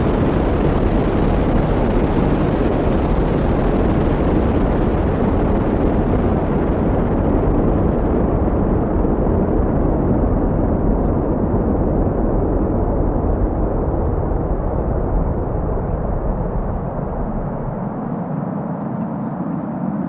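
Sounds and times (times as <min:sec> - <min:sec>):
rocket engines roaring: 0:00.0 - 0:20.0.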